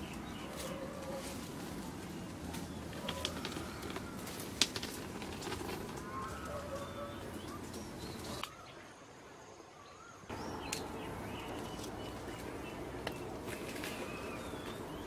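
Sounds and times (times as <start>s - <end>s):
birds chirping and whistling: 0.0s - 4.5s, 5.4s - 8.9s, 9.8s - 15.0s
rustling in leaf litter: 0.0s - 8.4s, 10.3s - 15.0s.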